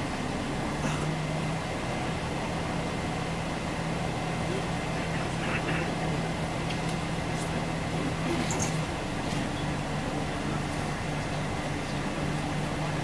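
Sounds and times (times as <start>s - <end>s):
bus diesel engine humming: 0.0s - 13.0s.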